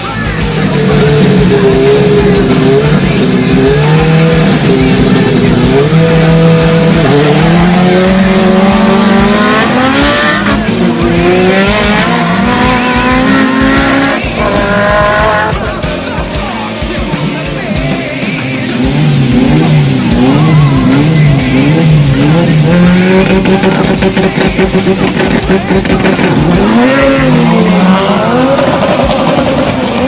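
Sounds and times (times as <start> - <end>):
race car engines accelerating: 0.0 - 30.0.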